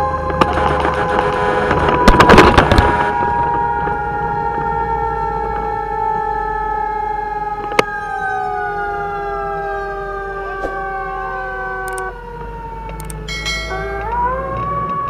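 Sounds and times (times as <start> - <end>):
fire truck siren: 0.0 - 15.0
truck engine rumble: 0.0 - 15.0.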